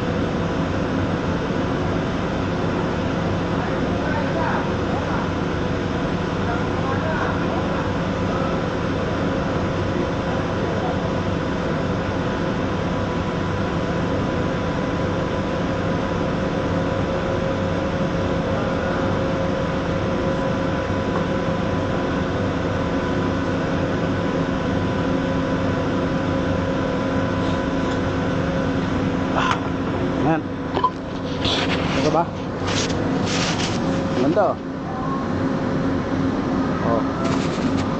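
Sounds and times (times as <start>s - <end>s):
electrical hum: 0.0s - 37.9s.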